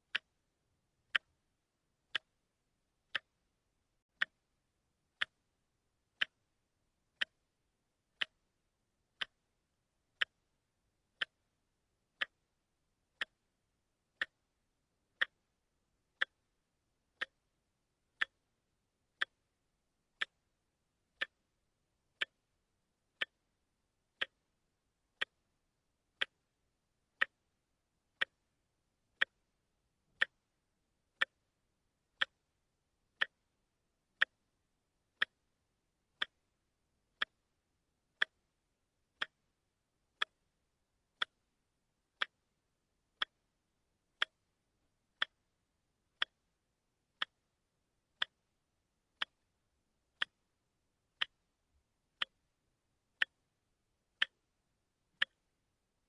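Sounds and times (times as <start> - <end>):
watch ticking: 0.0 - 45.5, 46.1 - 55.9.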